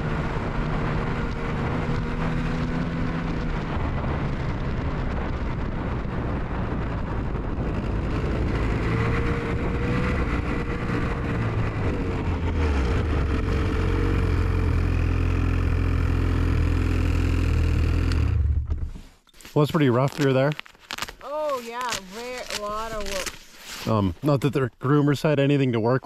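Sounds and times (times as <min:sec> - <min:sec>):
snowmobile engine running: 0:00.0 - 0:19.0, 0:21.3 - 0:24.5.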